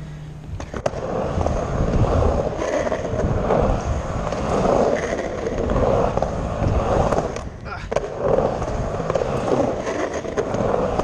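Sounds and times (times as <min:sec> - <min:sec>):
skateboard wheels rolling on ramp: 0:00.4 - 0:11.0.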